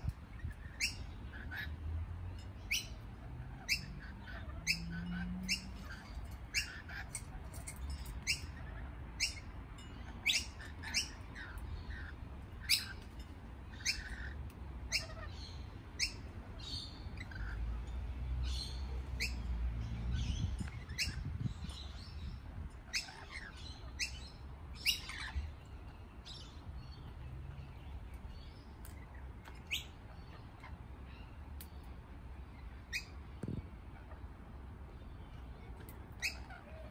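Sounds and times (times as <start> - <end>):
lorikeets chirping: 0.0 - 36.9.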